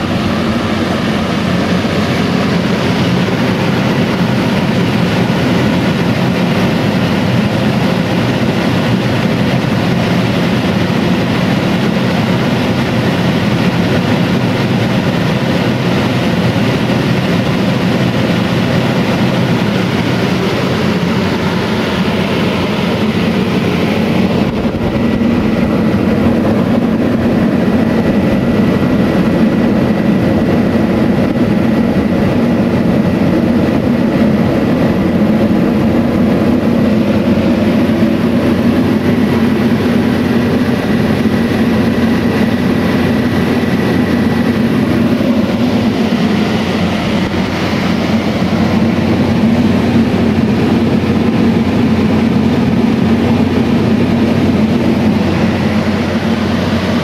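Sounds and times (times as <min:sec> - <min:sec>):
hvac fan rushing air: 0:00.0 - 0:57.0
low hum: 0:00.0 - 0:57.0.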